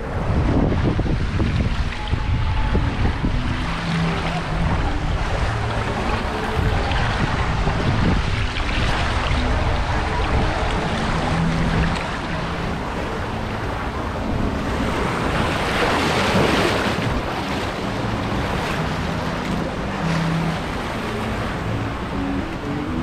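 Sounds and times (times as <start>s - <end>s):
churning water: 0.0s - 23.0s
water rushing down water slide: 0.0s - 23.0s.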